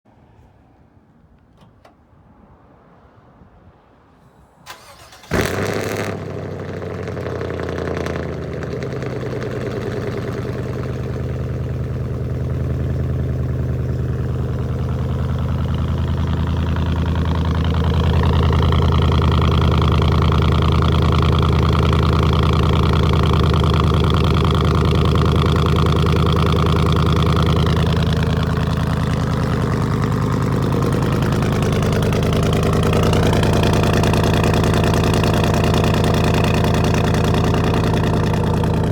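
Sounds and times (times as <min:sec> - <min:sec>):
car engine starting and idling: 0:04.6 - 0:38.9.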